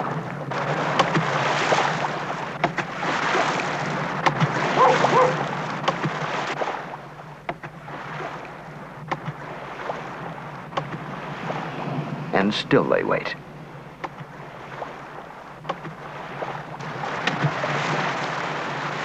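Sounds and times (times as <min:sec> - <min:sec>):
shallow surf washing in: 0:00.0 - 0:07.2, 0:07.8 - 0:19.0
stick slapping water: 0:00.5 - 0:11.6, 0:14.0 - 0:19.0.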